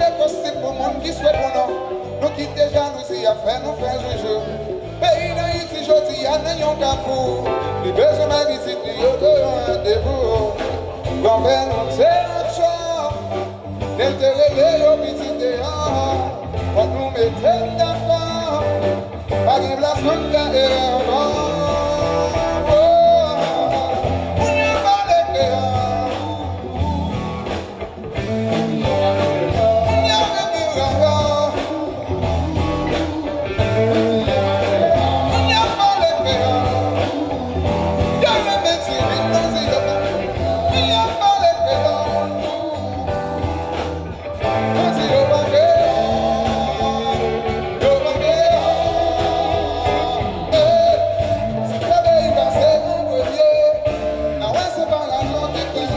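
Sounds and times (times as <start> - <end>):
live band music: 0.0 - 55.9.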